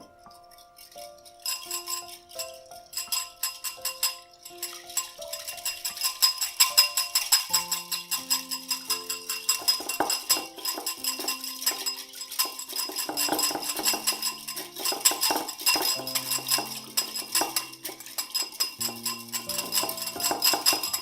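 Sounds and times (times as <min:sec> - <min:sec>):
light background music with jingling: 0:00.0 - 0:21.0
utensils clinking against dishes: 0:00.0 - 0:21.0.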